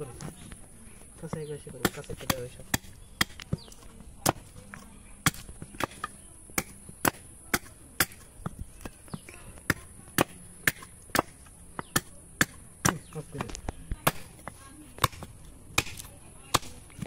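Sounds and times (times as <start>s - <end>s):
knife chopping bamboo root: 1.2s - 17.0s.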